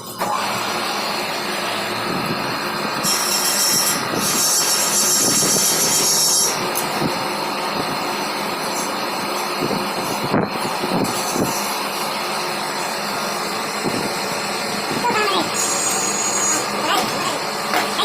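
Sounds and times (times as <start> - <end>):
machine running: 0.0 - 18.0.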